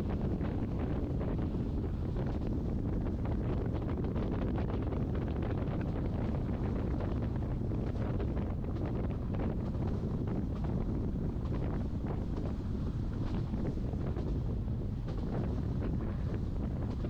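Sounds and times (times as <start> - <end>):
train rumbling: 0.0 - 17.0
wind buffeting microphone: 0.0 - 17.0.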